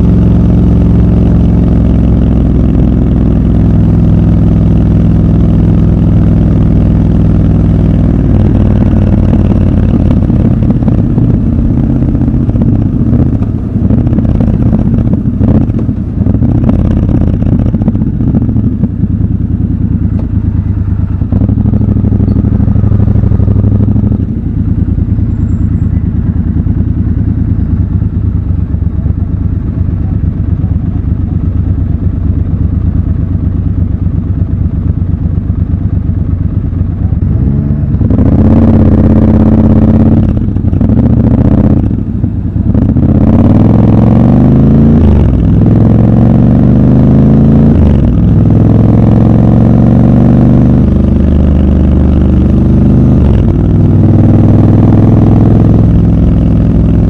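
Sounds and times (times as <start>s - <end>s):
motorcycle engine idling: 0.0s - 38.1s, 38.9s - 43.1s, 50.8s - 57.0s
motorcycle accelerating through gears: 0.0s - 57.0s.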